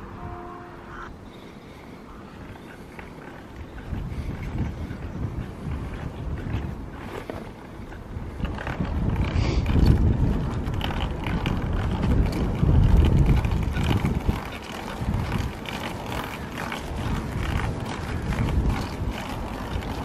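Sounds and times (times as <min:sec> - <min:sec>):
wind buffeting microphone: 0:00.0 - 0:20.0
bike tyres rolling: 0:01.0 - 0:20.0
bike knocks and rattles: 0:02.4 - 0:20.0.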